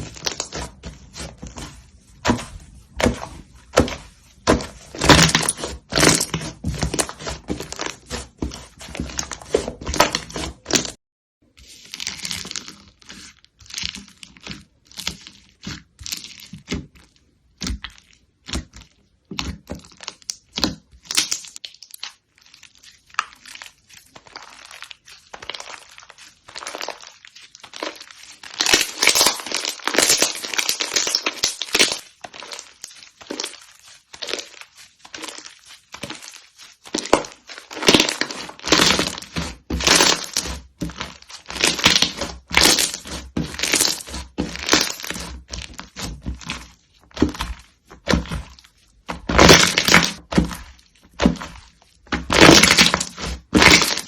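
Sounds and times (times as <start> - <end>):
crunchy slime crackling: 0.0 - 11.0, 17.5 - 54.0.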